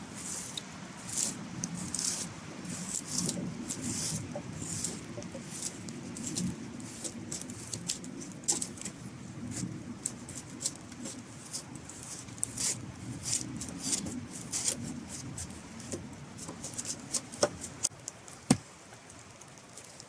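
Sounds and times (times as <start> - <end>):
machete scraping bark off wood: 0.1 - 9.0, 9.6 - 17.9.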